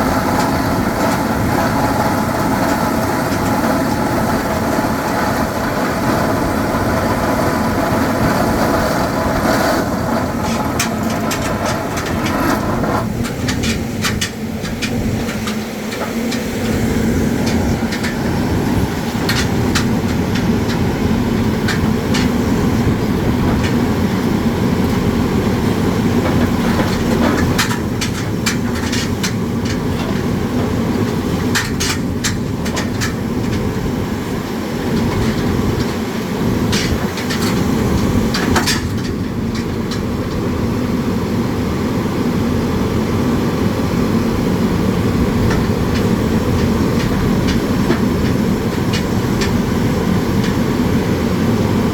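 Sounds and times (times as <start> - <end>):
sharp clicks and knocks: 0.0 - 25.0, 26.2 - 34.0, 34.9 - 40.4, 45.3 - 50.9
drilling rig rumbling: 0.0 - 51.9.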